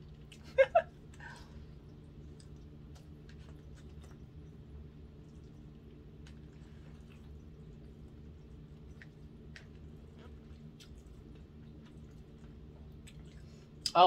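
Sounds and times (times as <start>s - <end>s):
low room hum: 0.0s - 14.0s
quiet chewing: 0.0s - 14.0s.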